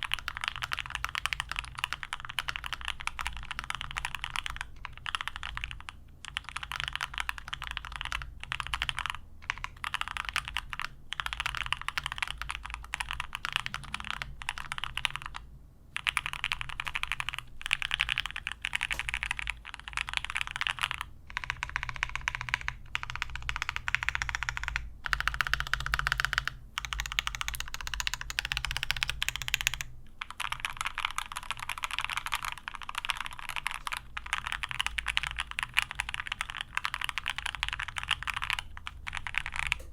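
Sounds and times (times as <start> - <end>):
fast mechanical keyboard typing: 0.0 - 15.4, 16.0 - 39.9.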